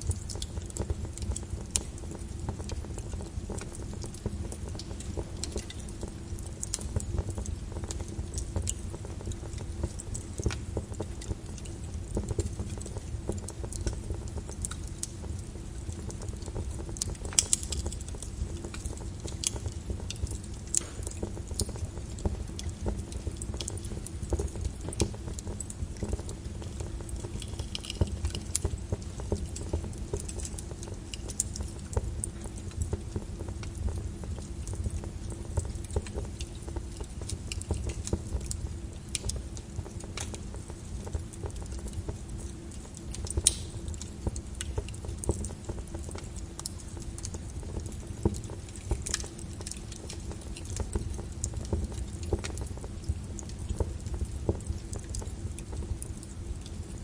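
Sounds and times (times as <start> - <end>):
lava crackling: 0.0 - 57.0.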